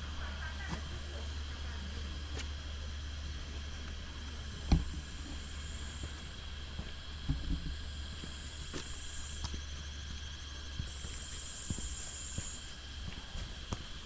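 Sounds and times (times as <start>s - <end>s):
low hum: 0.0s - 14.0s
steady hiss: 0.0s - 14.0s.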